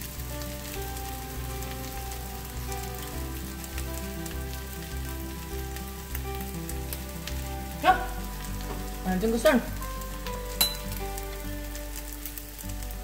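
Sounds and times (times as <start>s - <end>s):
background music: 0.0s - 13.0s
food sizzling in a frying pan: 0.0s - 13.0s.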